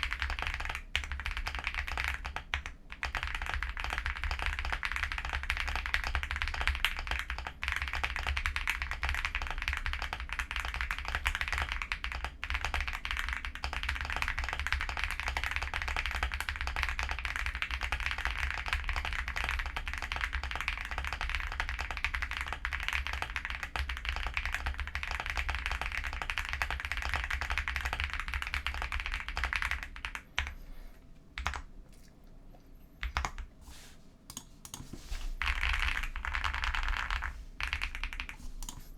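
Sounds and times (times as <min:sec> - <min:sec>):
typing on mechanical keyboard: 0:00.0 - 0:30.6, 0:31.4 - 0:31.7, 0:33.0 - 0:33.5, 0:35.4 - 0:38.9.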